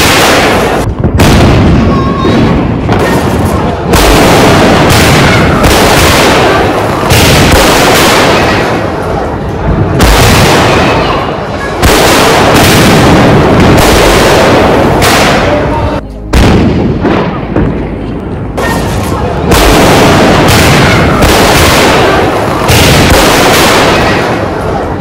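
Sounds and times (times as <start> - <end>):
firecrackers bursting: 0.0 - 25.0.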